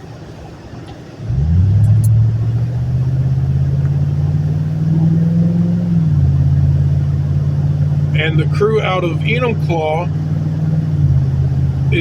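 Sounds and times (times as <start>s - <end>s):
vehicle engine accelerating hard: 1.2s - 12.0s.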